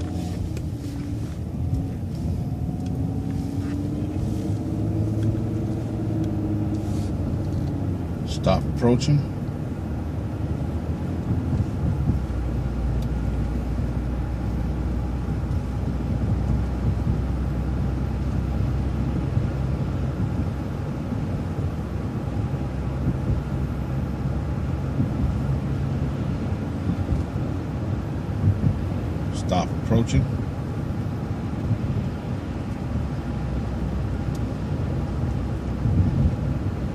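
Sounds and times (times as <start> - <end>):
bus engine droning: 0.0 - 36.9
road noise: 0.0 - 36.9.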